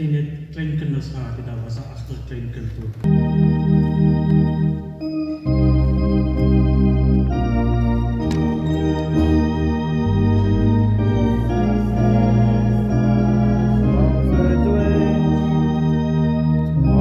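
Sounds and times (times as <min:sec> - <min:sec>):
organ playing slow chords: 0:03.0 - 0:17.0.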